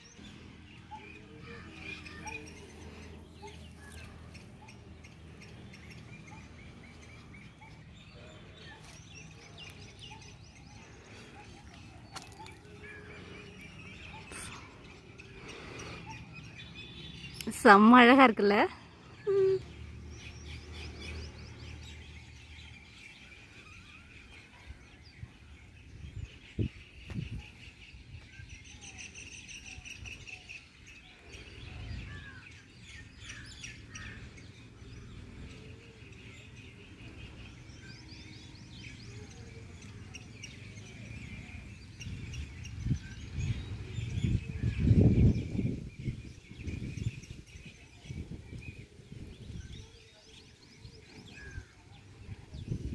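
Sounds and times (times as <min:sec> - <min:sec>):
birds chirping and trilling: 0:00.0 - 0:52.9.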